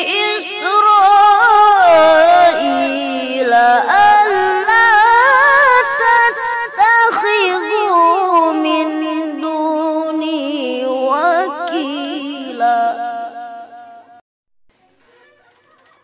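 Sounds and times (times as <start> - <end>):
boy reciting melodically: 0.0 - 13.7.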